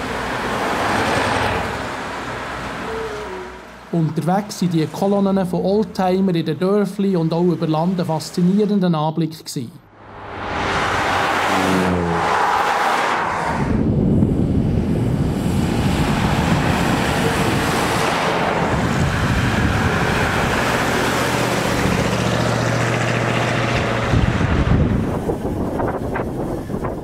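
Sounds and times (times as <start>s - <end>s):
cars driving past: 0.0s - 5.4s, 9.9s - 26.9s.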